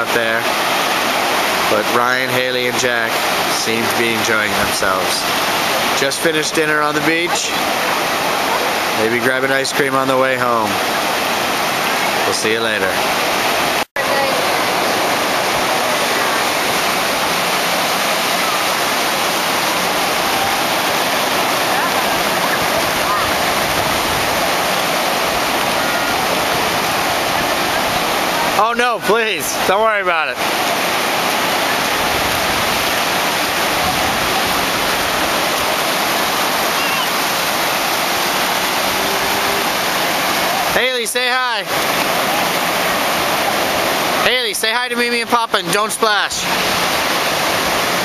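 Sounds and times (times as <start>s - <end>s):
ocean surf breaking: 0.0s - 48.0s.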